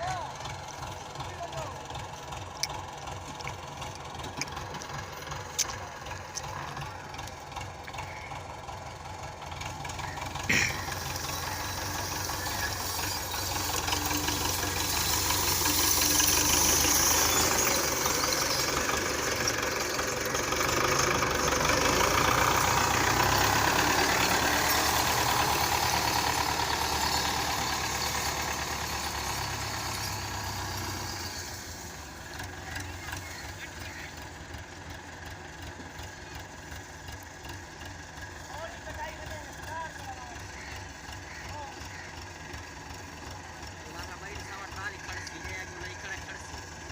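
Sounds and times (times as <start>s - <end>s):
tractor diesel engine straining: 0.0s - 46.9s.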